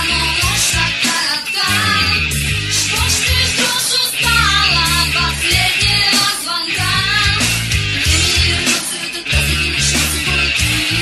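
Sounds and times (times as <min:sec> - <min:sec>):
rock band music: 0:00.0 - 0:11.0.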